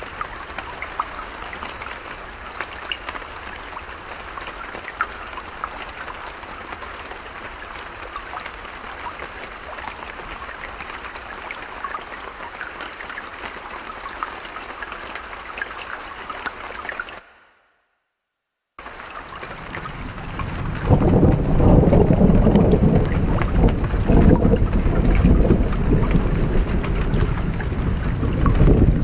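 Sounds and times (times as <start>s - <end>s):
steady rain patter: 0.0s - 17.4s, 18.8s - 29.0s.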